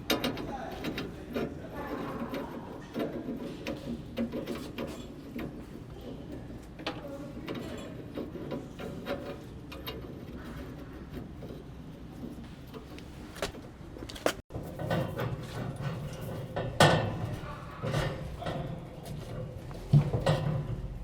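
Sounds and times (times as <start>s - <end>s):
plumbing pipes clicking and knocking: 0.0s - 21.0s.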